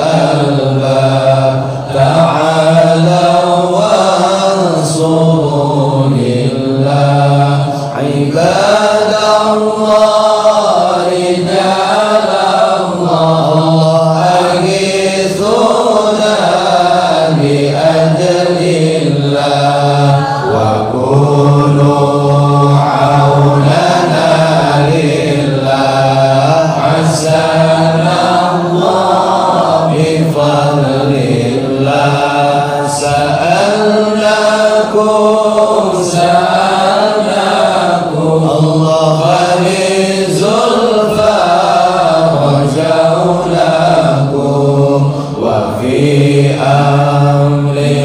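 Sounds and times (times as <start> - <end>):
men chanting in unison: 0.0 - 48.0.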